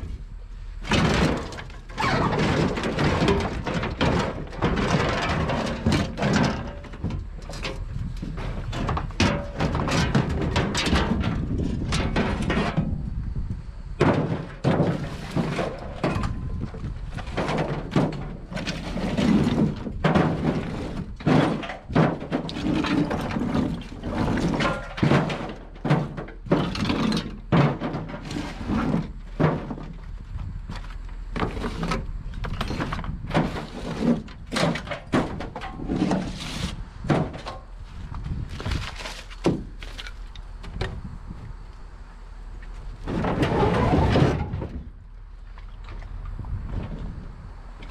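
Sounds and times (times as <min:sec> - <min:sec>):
low steady rumble: 0:00.0 - 0:47.9
scrap metal clanking: 0:00.8 - 0:13.1, 0:14.0 - 0:40.4, 0:42.8 - 0:45.0.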